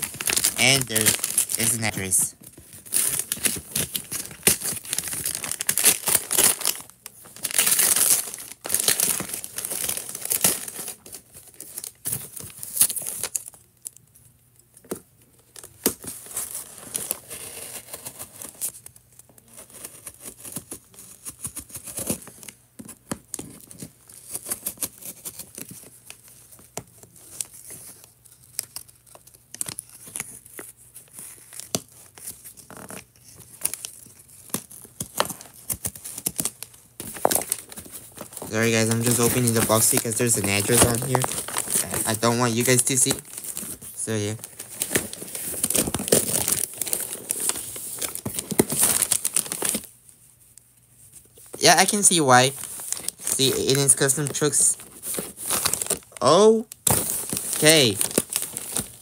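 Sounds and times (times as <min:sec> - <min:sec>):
packaging rustling: 0:00.0 - 0:14.0, 0:15.4 - 0:50.0, 0:51.2 - 0:59.0
packaging tearing and crinkling: 0:00.0 - 0:14.0, 0:23.1 - 0:50.0, 0:51.5 - 0:59.0.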